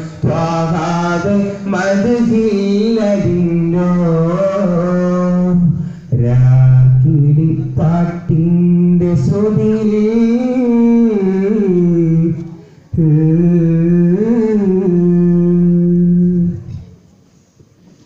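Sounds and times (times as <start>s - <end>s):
man singing chant: 0.0s - 17.0s.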